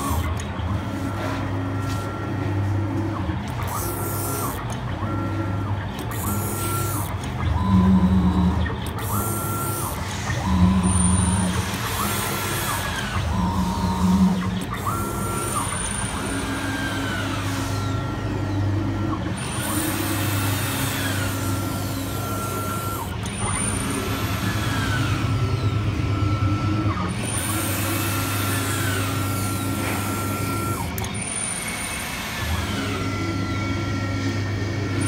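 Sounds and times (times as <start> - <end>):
machine drive motors whining: 0.0 - 35.0.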